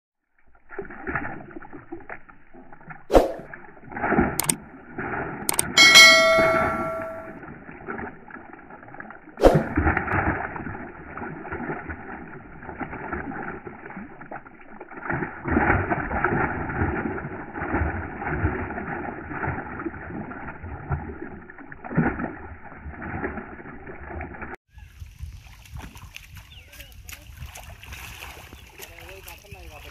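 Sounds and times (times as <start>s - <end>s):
fish splashing in water: 0.4s - 6.4s, 7.5s - 29.9s.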